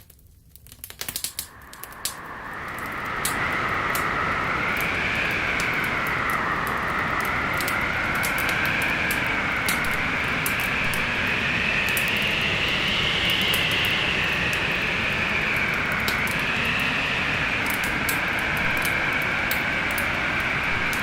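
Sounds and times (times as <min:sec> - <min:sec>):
wood fire crackling: 0:00.0 - 0:12.4, 0:13.3 - 0:21.0
howling storm wind: 0:01.3 - 0:21.0.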